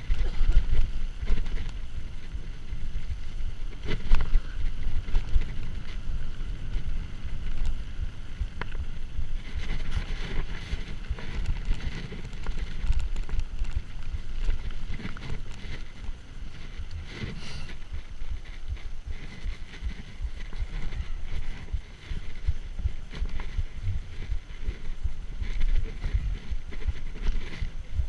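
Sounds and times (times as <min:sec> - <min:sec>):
bike rattling: 0:00.0 - 0:28.0
wind buffeting microphone: 0:00.0 - 0:28.0.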